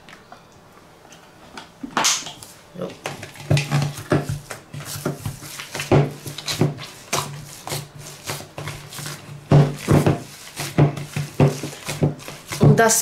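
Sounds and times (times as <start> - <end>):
hands kneading sticky paste: 2.4 - 13.0.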